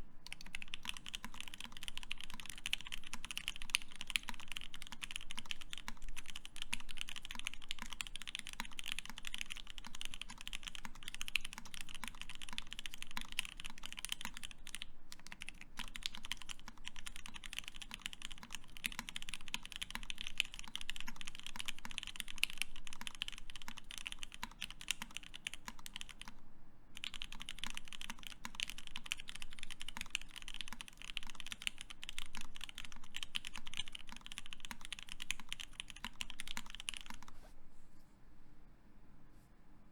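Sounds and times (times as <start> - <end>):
fast mechanical keyboard typing: 0.3 - 26.4, 27.0 - 37.3.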